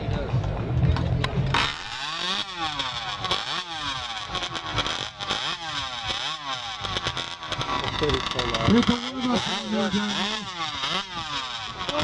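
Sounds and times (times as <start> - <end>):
chainsaw engine revving: 1.4 - 12.0.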